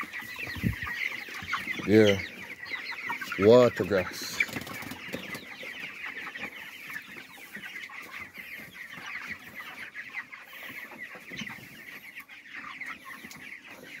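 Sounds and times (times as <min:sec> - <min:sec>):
chicks peeping and cheeping: 0:00.0 - 0:14.0.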